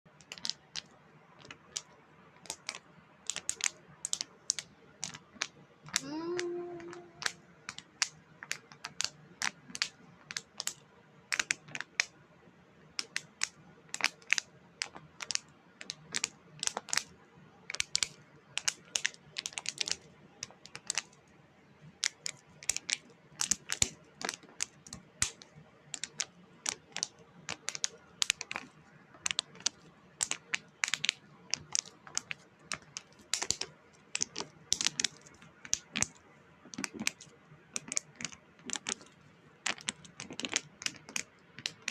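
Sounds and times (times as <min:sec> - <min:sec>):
sharp clicks and taps: 0:00.1 - 0:12.2, 0:12.9 - 0:17.1, 0:17.7 - 0:21.2, 0:22.0 - 0:41.9.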